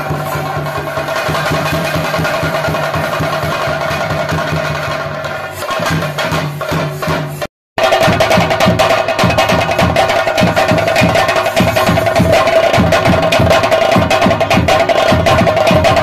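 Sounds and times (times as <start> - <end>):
drums beaten in fast roll: 0.0 - 16.0.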